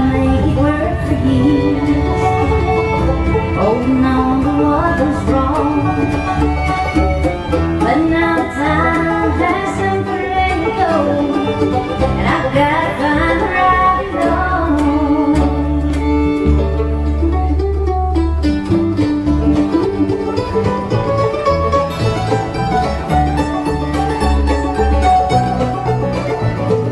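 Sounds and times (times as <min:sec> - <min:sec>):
banjo: 0:00.0 - 0:26.9
fiddle: 0:00.0 - 0:26.9
guitar: 0:00.0 - 0:26.9
upright bass: 0:00.0 - 0:26.9.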